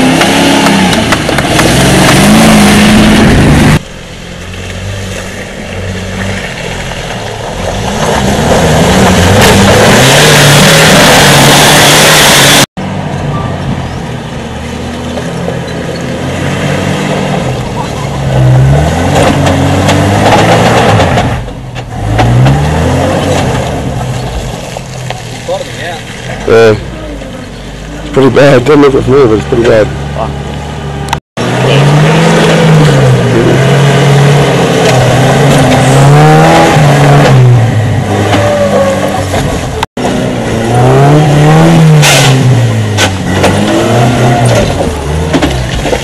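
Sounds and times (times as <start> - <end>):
four-wheel-drive engines revving: 0.0 - 46.0.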